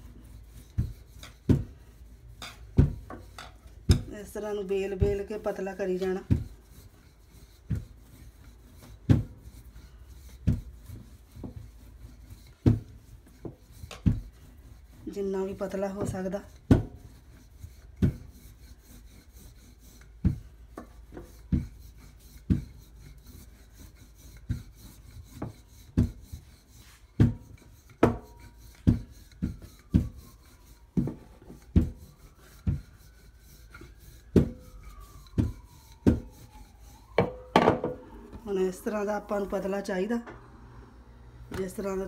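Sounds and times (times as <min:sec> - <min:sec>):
rolling pin rolling over dough: 0:00.0 - 0:40.2, 0:41.5 - 0:42.0.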